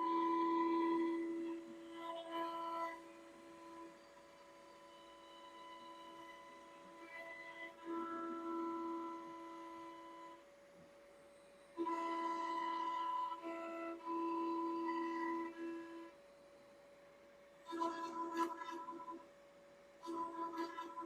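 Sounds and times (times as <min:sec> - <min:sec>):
router spindle whine: 0:00.0 - 0:21.0.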